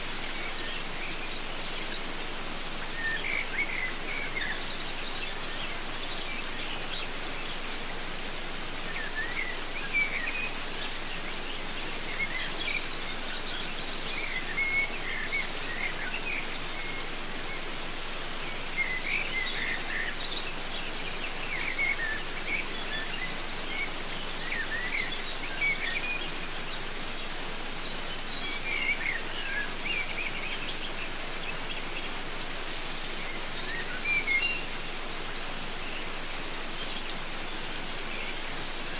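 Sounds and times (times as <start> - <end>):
birds chirping: 0.0 - 38.9
waterfall rushing: 0.0 - 38.9.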